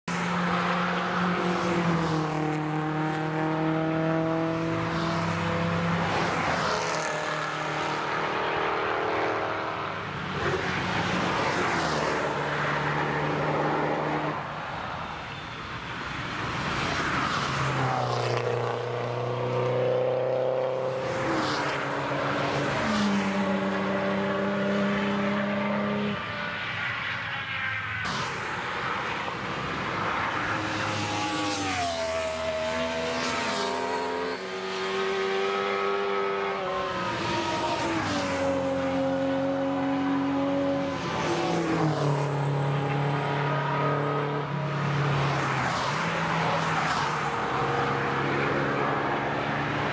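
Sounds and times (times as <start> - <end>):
racing cars driving past: 0.1 - 15.5, 16.4 - 49.9.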